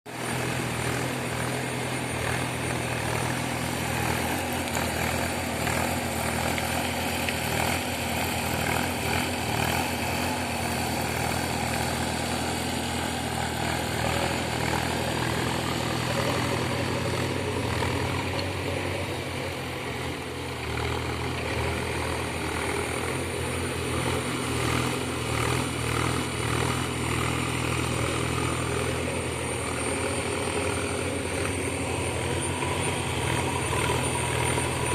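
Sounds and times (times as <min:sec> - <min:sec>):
digger diesel engine droning: 0:00.1 - 0:34.9.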